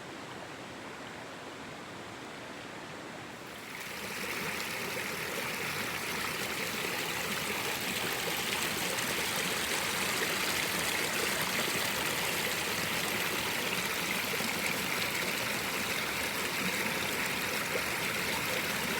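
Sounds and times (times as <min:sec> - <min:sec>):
river flowing over stones: 0:03.4 - 0:18.9.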